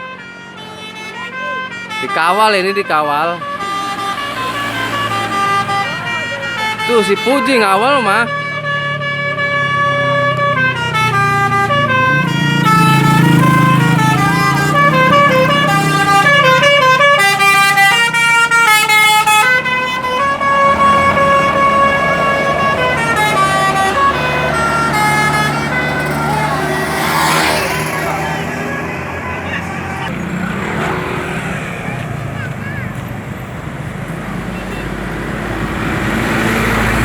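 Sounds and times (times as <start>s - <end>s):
musical bus air horn: 0.0s - 32.4s, 34.1s - 37.0s
bus engine running: 0.0s - 37.0s.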